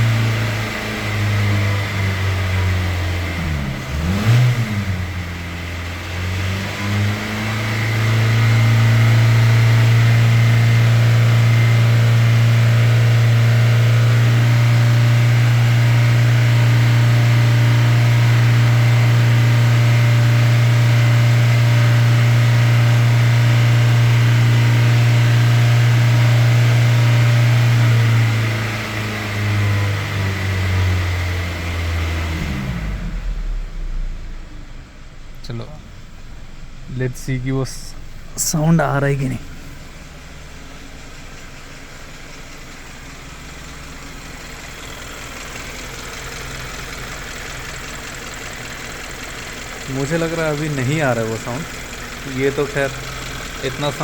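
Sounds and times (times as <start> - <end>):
car engine at high revs: 0.0 - 54.0.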